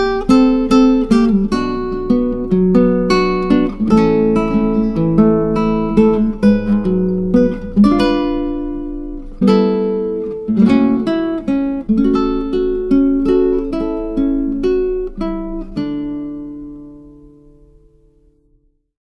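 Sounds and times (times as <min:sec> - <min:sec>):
acoustic guitar slow melody: 0:00.0 - 0:18.8.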